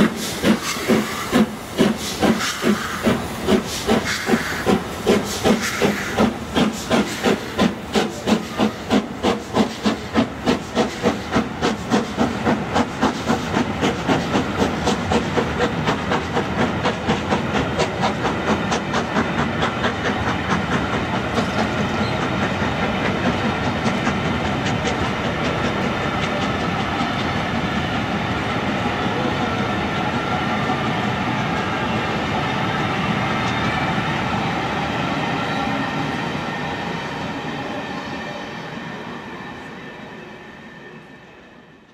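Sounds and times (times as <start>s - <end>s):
train wheels clicking: 0.0s - 38.3s
train rumble and rush: 0.0s - 41.9s.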